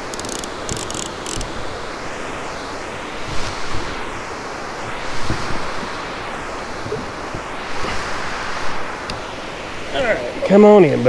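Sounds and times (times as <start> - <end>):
steady swishing rush: 1.5 - 11.0.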